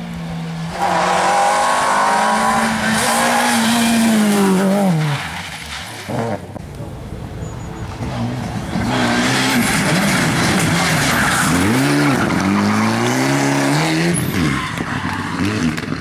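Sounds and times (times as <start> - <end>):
rally car engine revving: 0.2 - 6.6, 7.8 - 16.0.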